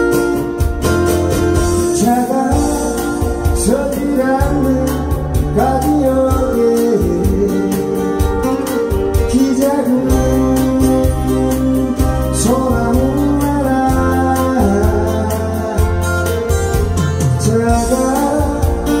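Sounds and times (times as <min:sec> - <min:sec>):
acoustic guitar strumming: 0:00.0 - 0:19.0
bass line: 0:00.0 - 0:19.0
steady beat: 0:00.0 - 0:19.0
man singing a pop ballad: 0:01.5 - 0:19.0.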